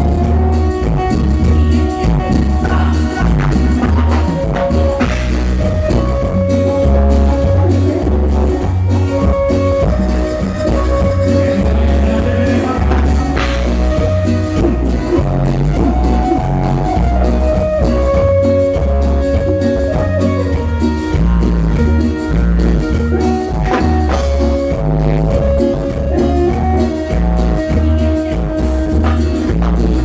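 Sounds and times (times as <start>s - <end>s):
live band playing amplified: 0.0s - 30.0s.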